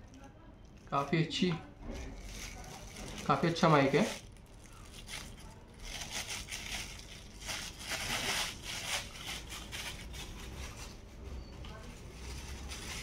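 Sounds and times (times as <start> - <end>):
plastic bag crinkling: 0.0 - 11.2, 12.0 - 13.0.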